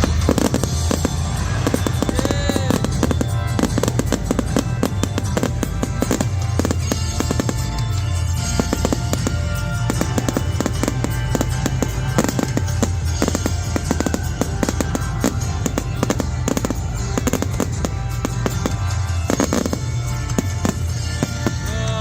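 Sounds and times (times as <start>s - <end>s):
fireworks cracking and banging: 0.0s - 22.0s
loud music with steady bass: 0.0s - 22.0s.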